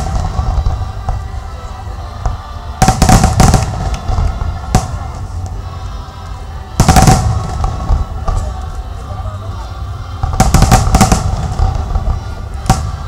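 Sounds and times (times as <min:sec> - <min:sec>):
fireworks bangs and crackles: 0:00.0 - 0:05.6, 0:06.7 - 0:08.9, 0:10.2 - 0:13.0
steady low rumble: 0:00.0 - 0:13.0.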